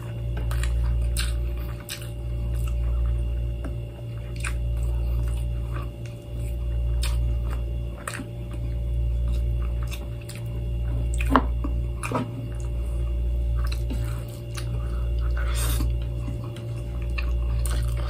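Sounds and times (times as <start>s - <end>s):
chewing: 0.0s - 18.0s.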